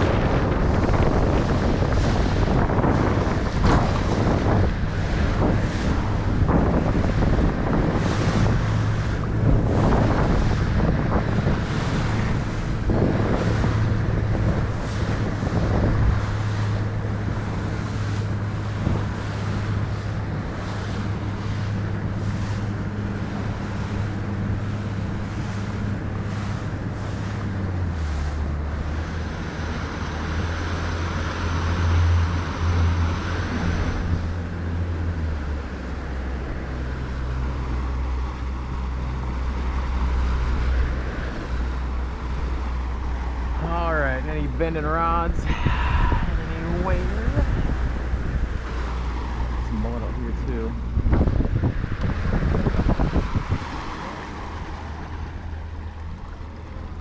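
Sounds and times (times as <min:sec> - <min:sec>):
engine humming: 0:00.0 - 0:57.0
wind buffeting microphone: 0:00.0 - 0:57.0.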